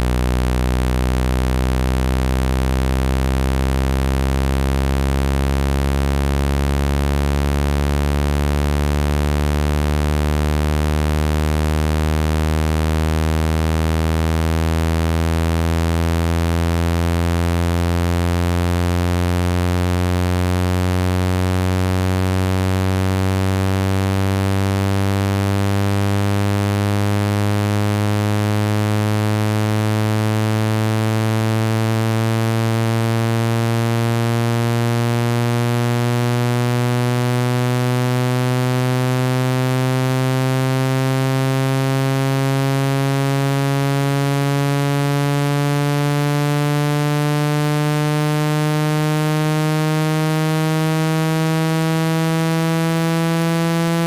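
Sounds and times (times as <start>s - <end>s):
low synthetic buzzing tone rising: 0.0s - 54.0s.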